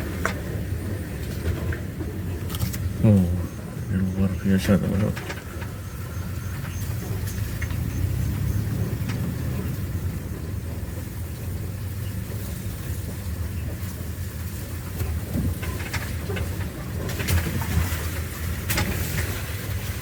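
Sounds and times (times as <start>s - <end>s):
car engine running low: 0.0s - 20.0s
road rumble: 0.0s - 20.0s.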